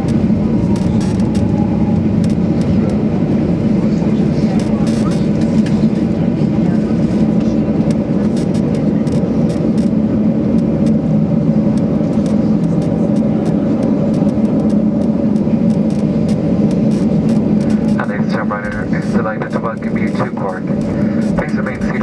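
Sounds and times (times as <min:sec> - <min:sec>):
jet engines idling in cabin: 0:00.0 - 0:22.0.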